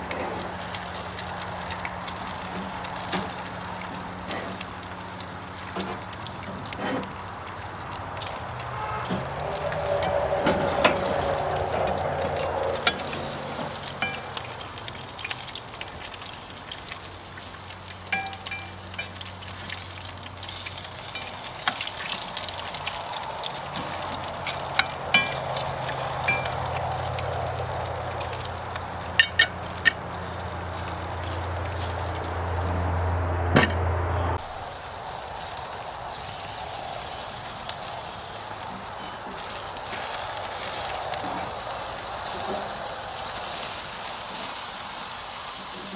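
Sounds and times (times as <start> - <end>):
meat sizzling on a grill: 0.0 - 33.4, 34.4 - 45.9
grill pops and crackles: 0.0 - 45.9.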